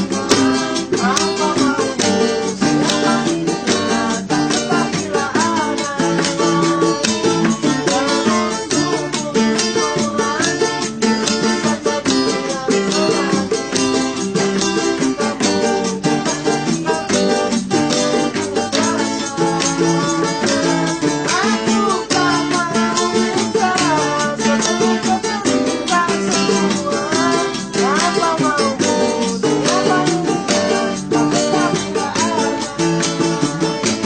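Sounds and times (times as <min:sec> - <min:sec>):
acoustic guitar strumming: 0:00.0 - 0:34.0
person singing: 0:00.0 - 0:34.0.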